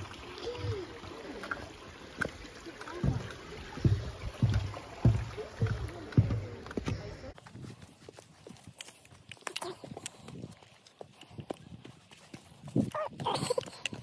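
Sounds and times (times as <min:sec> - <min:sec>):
footsteps on footbridge: 0:01.6 - 0:14.0.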